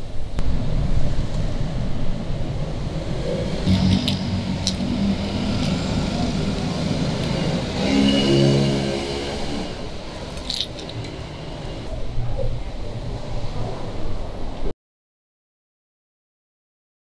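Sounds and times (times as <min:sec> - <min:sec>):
street traffic hum: 0:00.0 - 0:14.7.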